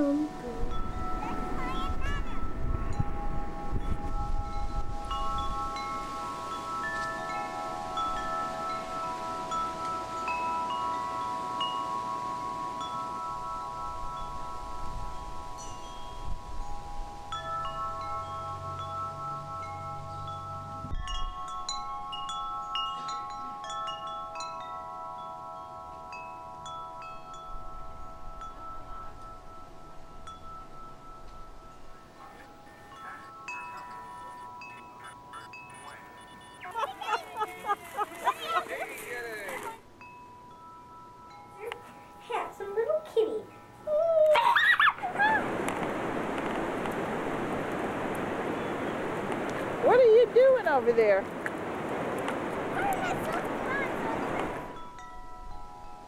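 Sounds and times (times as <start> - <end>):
wind chimes ringing: 0.0 - 56.0.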